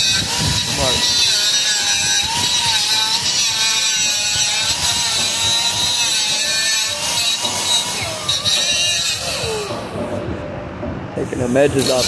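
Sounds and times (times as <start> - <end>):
grinder whining on steel: 0.0 - 10.2, 11.6 - 12.0.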